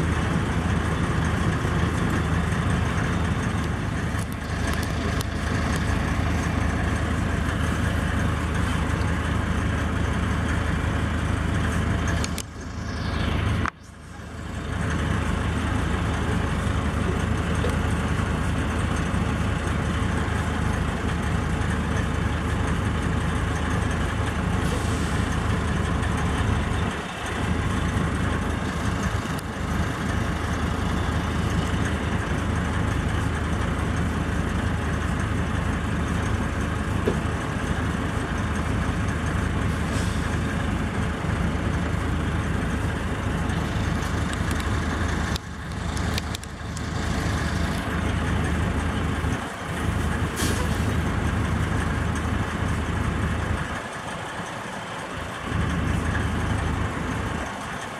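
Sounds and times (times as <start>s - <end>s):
heavy diesel engine idling: 0.0s - 57.9s.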